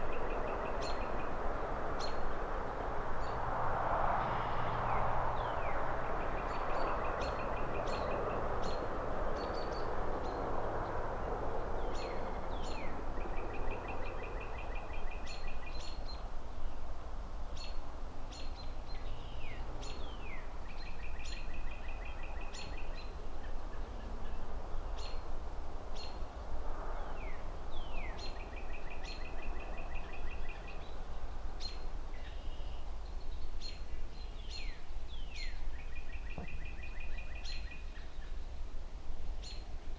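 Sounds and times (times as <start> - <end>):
car passing: 0.0 - 17.2, 17.9 - 33.0
distant traffic hum: 0.0 - 39.9
songbirds chirping: 0.0 - 39.9.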